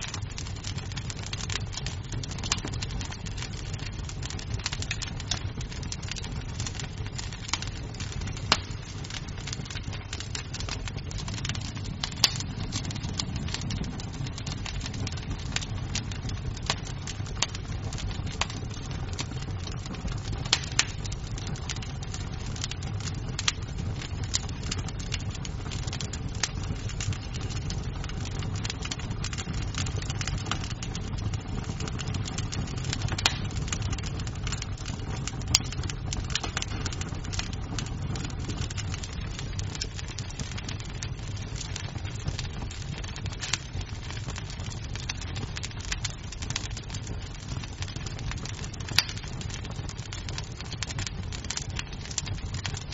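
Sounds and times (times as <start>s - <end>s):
fire flames rumbling: 0.0s - 52.9s
wood crackling and popping: 0.0s - 52.9s.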